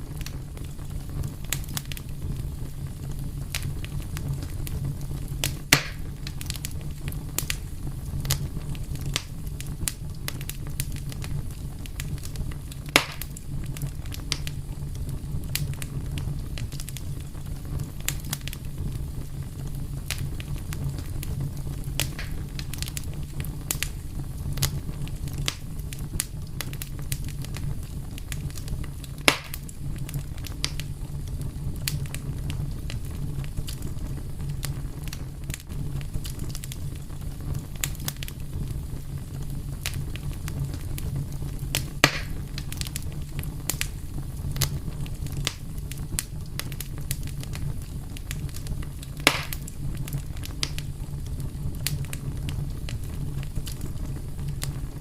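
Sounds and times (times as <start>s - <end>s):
loud fire pops: 0.0s - 55.0s
low fire rumble: 0.0s - 55.0s
wood fire crackling: 0.0s - 55.0s.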